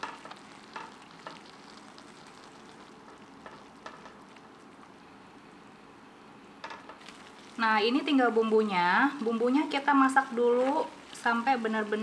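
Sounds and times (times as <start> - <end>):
paste sizzling in a wok: 0.0 - 4.7, 7.0 - 12.0.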